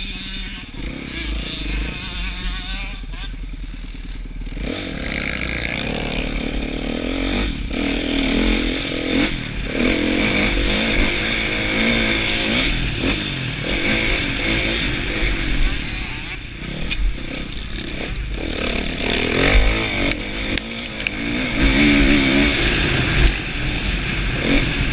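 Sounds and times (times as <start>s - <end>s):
motocross engine revving: 0.0s - 24.9s.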